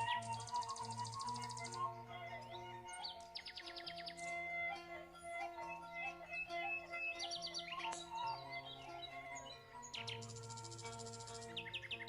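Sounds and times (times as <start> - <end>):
background music with held notes: 0.0 - 12.0
small bird chirping: 0.0 - 12.0.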